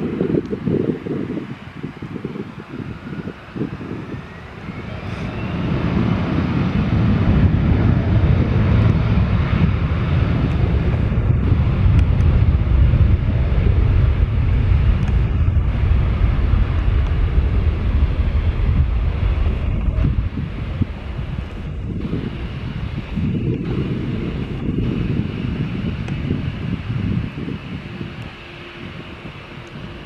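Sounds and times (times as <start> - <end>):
jet engines spooling up: 0.0 - 30.0.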